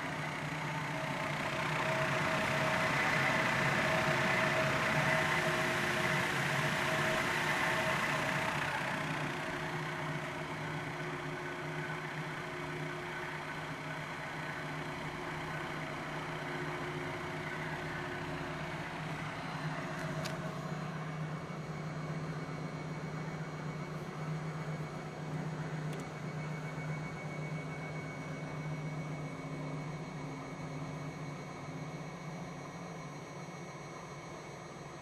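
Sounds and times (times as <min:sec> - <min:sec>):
centrifuge motor hum and whine: 0:00.0 - 0:35.0.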